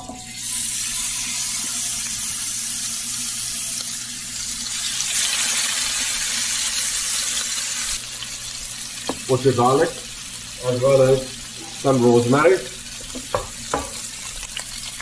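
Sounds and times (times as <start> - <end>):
steaks sizzling in frying pan: 0.3 - 15.0.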